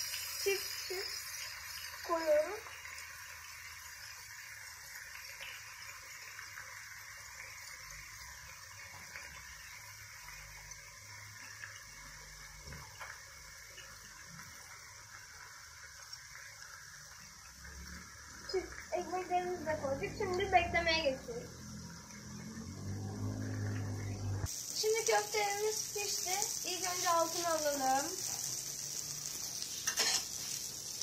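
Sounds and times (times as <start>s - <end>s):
patties sizzling on grill: 0.0s - 31.0s.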